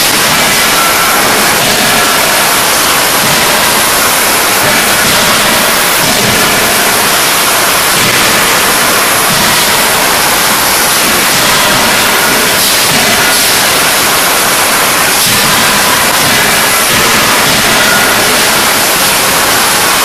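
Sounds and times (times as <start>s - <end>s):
forging presses roaring: 0.0s - 20.0s.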